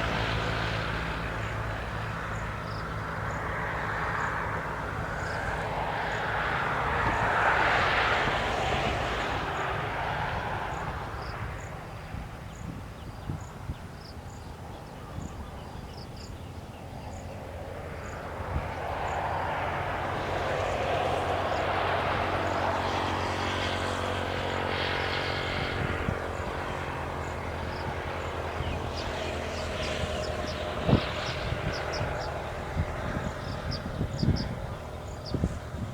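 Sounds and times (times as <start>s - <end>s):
distant aircraft engine drone: 0.0s - 35.9s.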